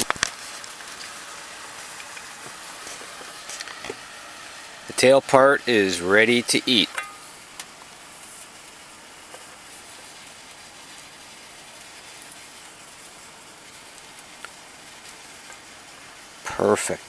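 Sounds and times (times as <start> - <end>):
fish sizzling in a pan: 0.0 - 17.0.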